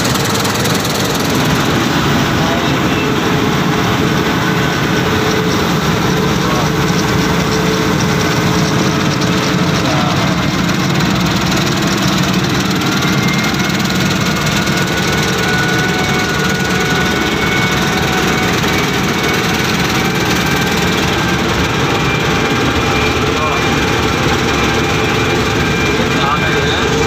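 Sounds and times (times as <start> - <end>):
combine harvester engine drone: 0.0 - 27.0.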